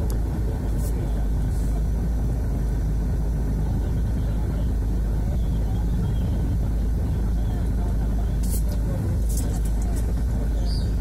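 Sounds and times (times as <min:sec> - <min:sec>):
engine and traffic rumble: 0:00.0 - 0:11.0.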